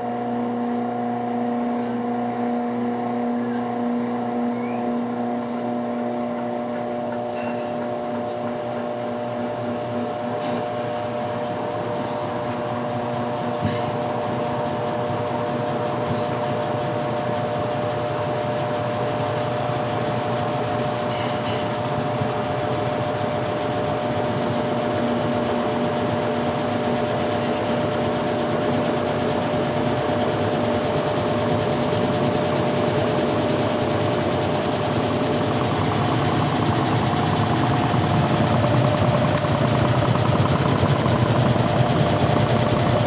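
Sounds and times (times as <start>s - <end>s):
washing machine motor hum: 0.0s - 43.0s.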